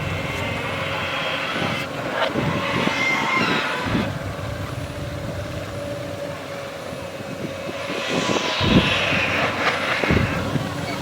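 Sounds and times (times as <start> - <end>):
machine low rumble: 0.0 - 11.0.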